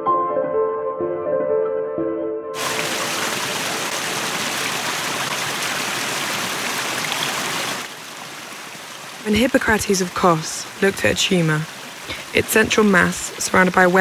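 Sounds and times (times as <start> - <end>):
stream splashing over rocks: 2.6 - 14.0.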